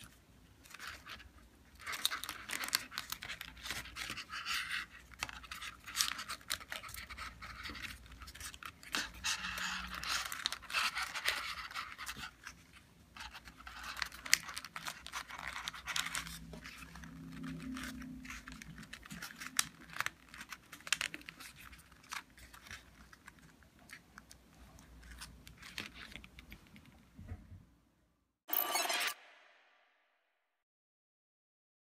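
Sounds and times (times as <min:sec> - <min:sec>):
paper rustling and crinkling: 0:00.0 - 0:26.8.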